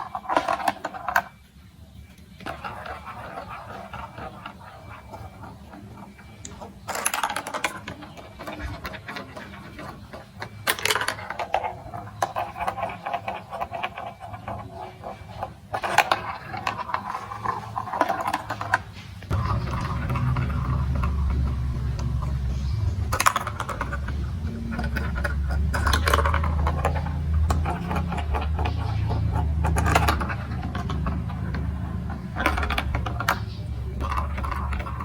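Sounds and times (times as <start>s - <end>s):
marbles rattling on plastic track: 0.0s - 1.4s, 2.4s - 35.0s.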